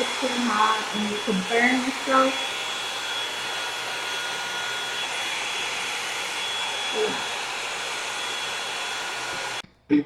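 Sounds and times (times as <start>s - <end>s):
hair dryer brush blowing air: 0.0s - 9.6s.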